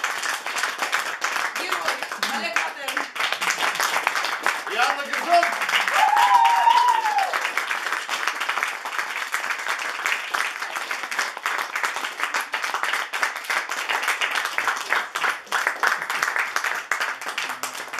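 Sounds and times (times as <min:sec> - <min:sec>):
audience applauding: 0:00.0 - 0:17.9.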